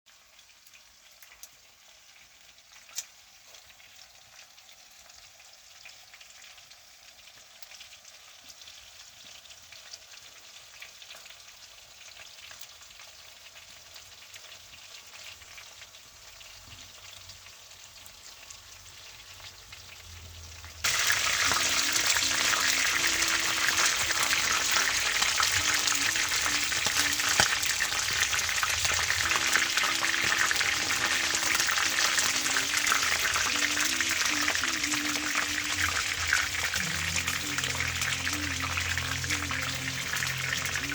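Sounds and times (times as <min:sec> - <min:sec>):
chicken frying in oil: 0:00.1 - 0:40.9.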